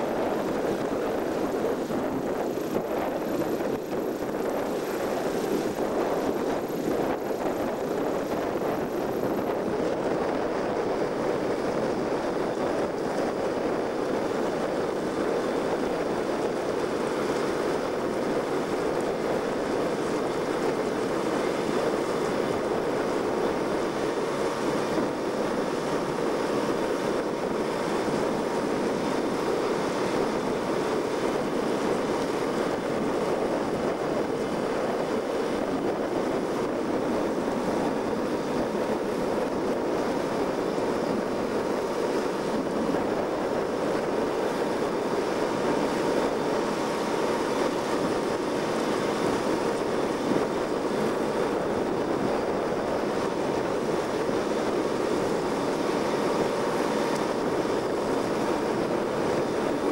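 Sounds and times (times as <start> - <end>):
choppy water: 0.0 - 59.9
strong wind on microphone: 0.0 - 59.9.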